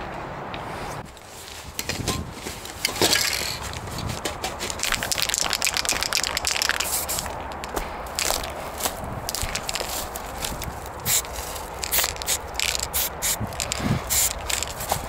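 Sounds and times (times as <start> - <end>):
footsteps crunching on rough ground: 1.0 - 15.0.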